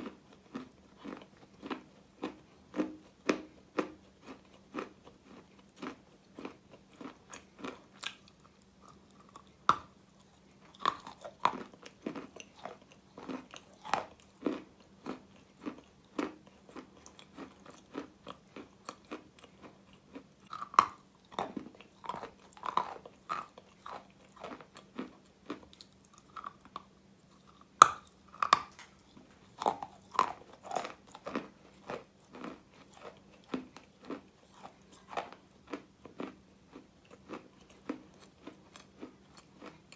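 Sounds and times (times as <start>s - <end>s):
chewing and crunching chalk: 0.0s - 39.9s.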